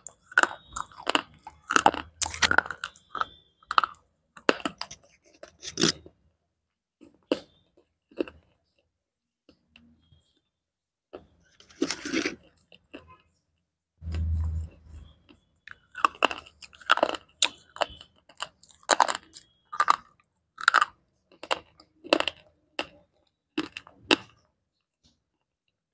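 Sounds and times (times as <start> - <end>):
crunching and chewing: 0.0 - 6.2, 7.0 - 8.9, 11.1 - 13.3, 14.0 - 25.2.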